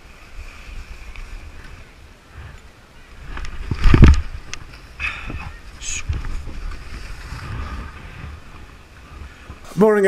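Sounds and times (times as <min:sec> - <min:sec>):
snowboard sliding on snow: 0:00.0 - 0:05.0, 0:06.1 - 0:10.0
wind buffeting microphone: 0:00.0 - 0:10.0.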